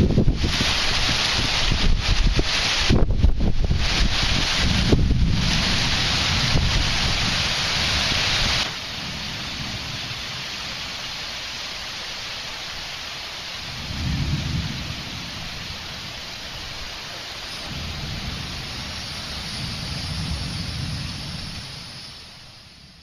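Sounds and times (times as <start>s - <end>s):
thunder rolling: 0.0s - 10.8s, 13.7s - 16.2s, 17.5s - 23.0s
heavy rain hissing: 0.0s - 23.0s
wind: 0.0s - 23.0s.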